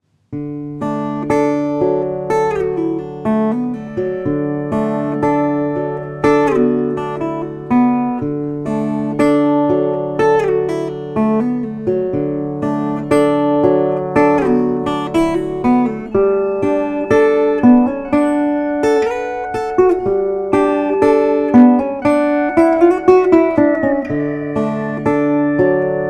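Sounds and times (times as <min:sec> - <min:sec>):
plucked string music: 0:00.3 - 0:26.0.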